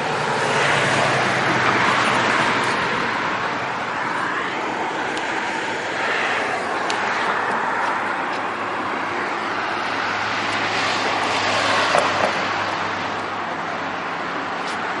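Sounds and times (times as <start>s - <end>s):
steady low traffic hum: 0.0s - 15.0s
vehicle passing: 0.0s - 15.0s.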